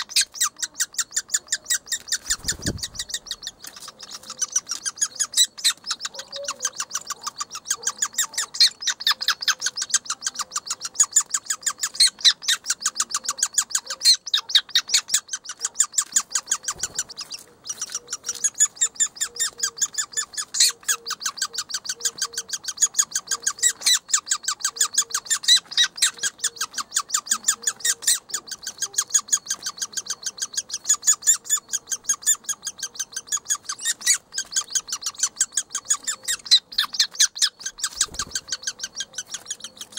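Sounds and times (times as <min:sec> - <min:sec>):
nestlings chirping: 0:00.0 - 0:39.9.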